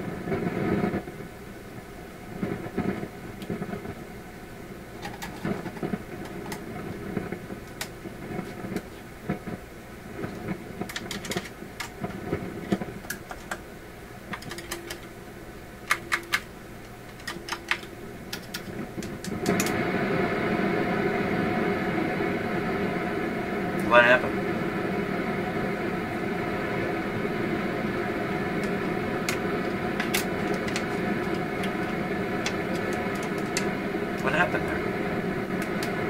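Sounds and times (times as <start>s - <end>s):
radio loudspeaker hum and hiss: 0.0s - 36.0s
sharp crackles and pops: 0.0s - 36.0s.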